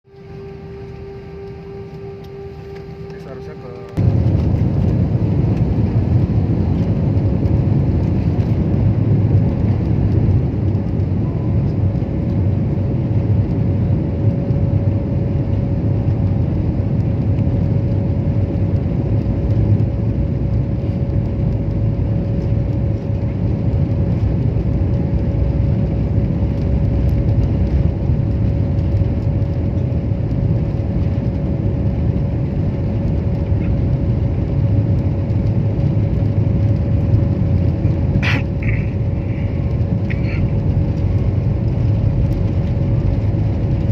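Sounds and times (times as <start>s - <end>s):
constant engine hum: 0.0s - 43.9s
jet engines rumbling: 0.1s - 43.9s.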